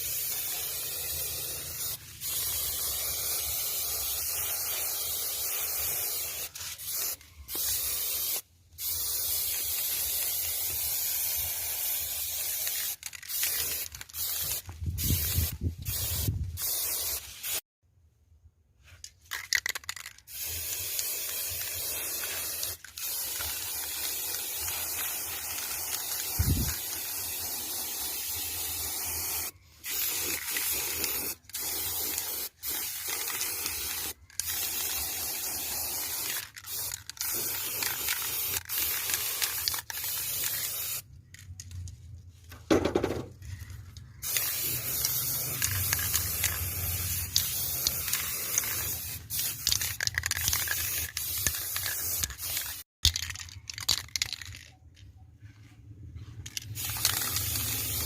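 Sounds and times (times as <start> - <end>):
pressurised spray hissing: 0.0 - 17.6, 20.3 - 41.0, 44.2 - 52.8, 56.7 - 58.0.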